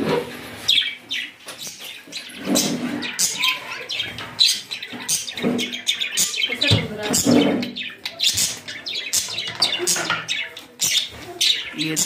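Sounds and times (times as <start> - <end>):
budgerigars chirping: 0.6 - 12.0.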